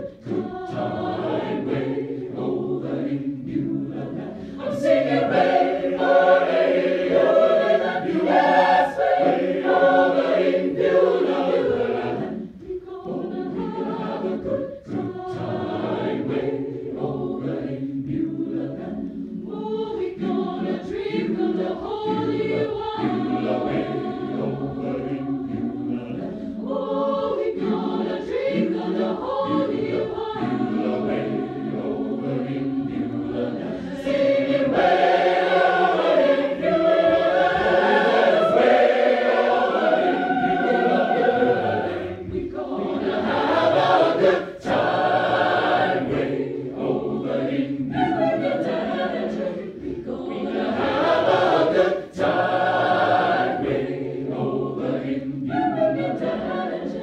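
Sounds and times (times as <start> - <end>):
muffled choir singing: 0.0 - 57.0.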